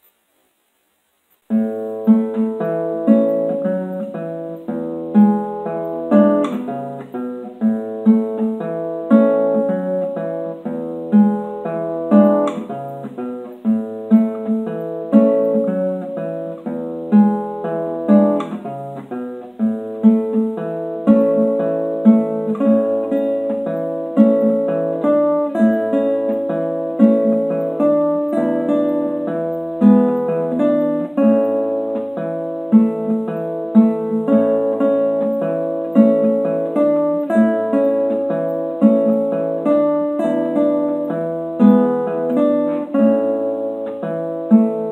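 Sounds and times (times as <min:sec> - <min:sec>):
solo classical guitar: 0:00.0 - 0:44.9.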